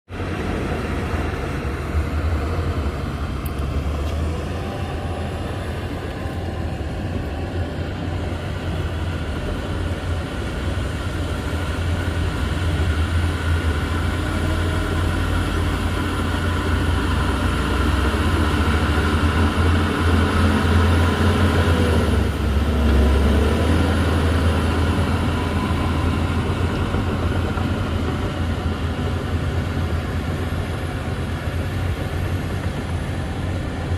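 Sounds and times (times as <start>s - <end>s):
diesel engine drone: 0.1s - 33.9s
high engine whine: 0.1s - 33.9s.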